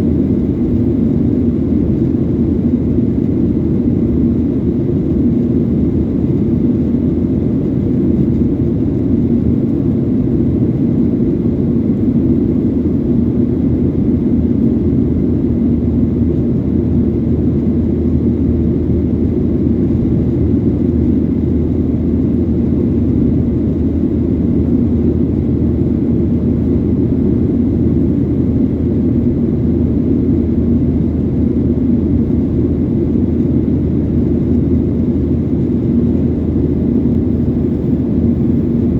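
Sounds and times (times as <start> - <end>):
constant hum: 0.0 - 38.9
jet engine drone and rushing air: 0.0 - 38.9.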